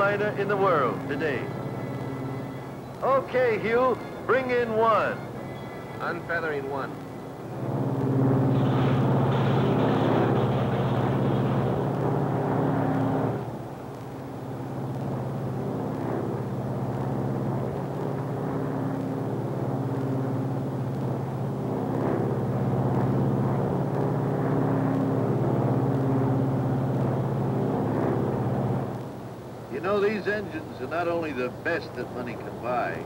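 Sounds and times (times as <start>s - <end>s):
propeller plane engines droning: 0.0s - 33.0s.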